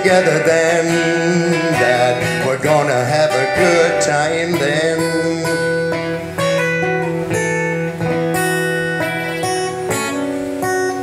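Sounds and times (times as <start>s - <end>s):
acoustic guitar strummed chords: 0.0s - 11.0s.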